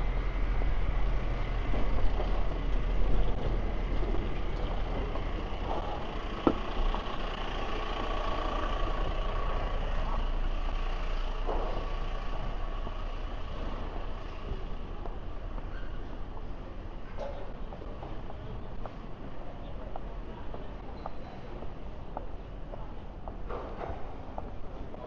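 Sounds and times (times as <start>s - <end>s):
city street traffic: 0.0s - 25.0s
large vehicle engine rumble: 0.0s - 25.0s.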